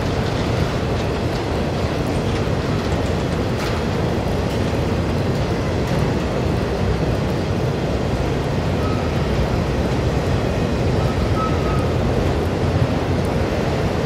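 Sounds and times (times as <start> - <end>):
freight train cars rolling past: 0.0 - 14.0.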